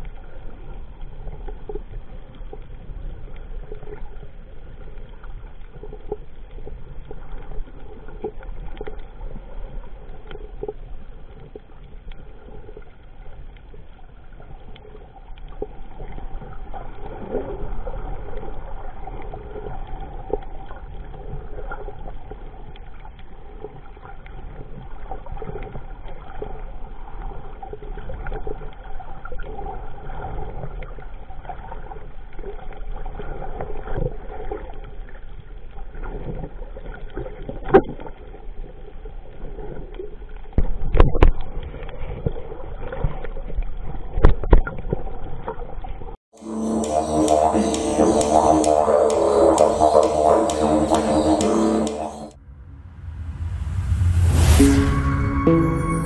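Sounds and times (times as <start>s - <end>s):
low underwater rumble: 0.0s - 56.0s
underwater droning hum: 0.0s - 56.0s.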